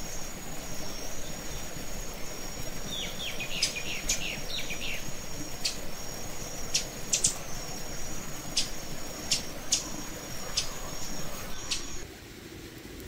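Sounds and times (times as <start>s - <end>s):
insects buzzing: 0.0s - 12.0s
insects chirping: 0.0s - 12.0s
leaves and stems rustling: 0.0s - 12.0s.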